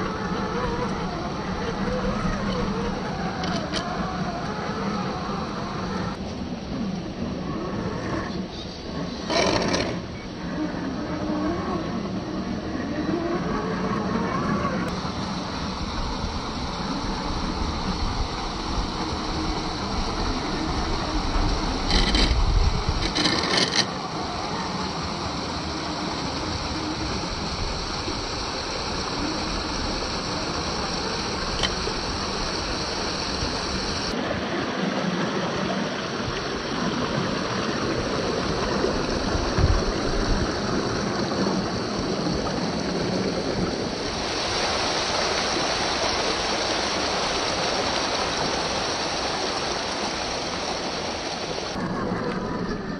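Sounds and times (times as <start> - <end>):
running water: 0.0 - 52.9.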